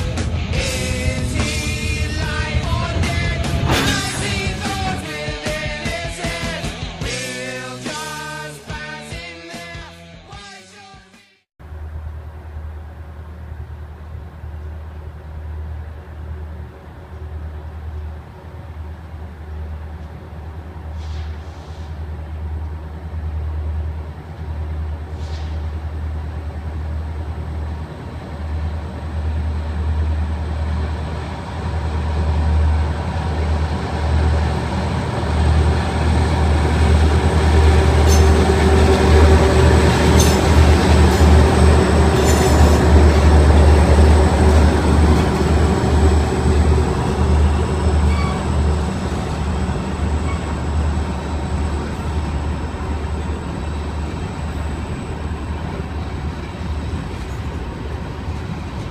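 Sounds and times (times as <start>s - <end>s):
train passing rumble: 0.0s - 8.2s, 11.6s - 58.9s.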